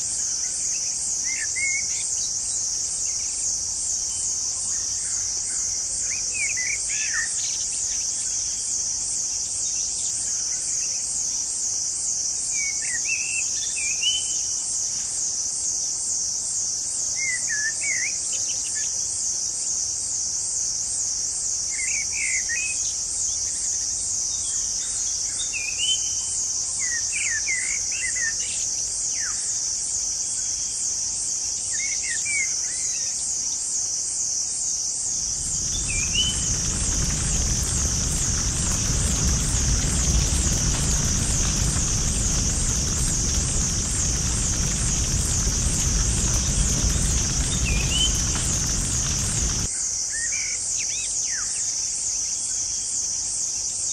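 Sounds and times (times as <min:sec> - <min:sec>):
insect chorus pulsing: 0:00.0 - 0:17.2, 0:19.0 - 0:49.7.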